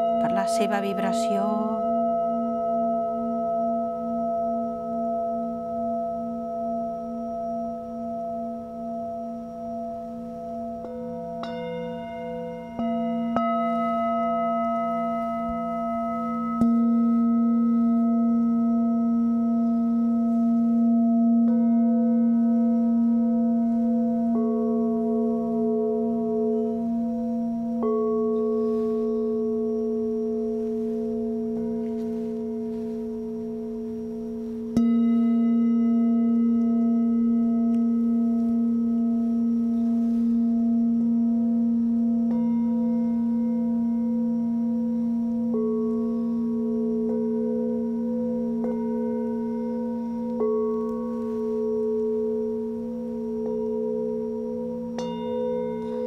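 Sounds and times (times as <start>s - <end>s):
singing bowl struck with mallet: 0.0s - 56.0s
singing bowls ringing: 0.0s - 56.0s.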